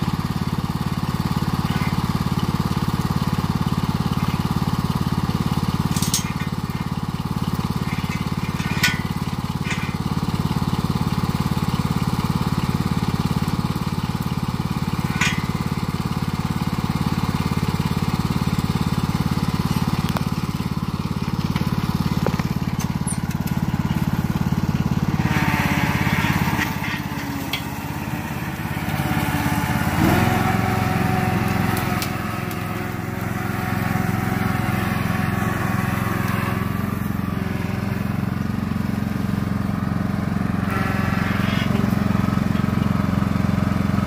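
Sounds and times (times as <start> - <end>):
riding lawn tractor engine: 0.0 - 44.0.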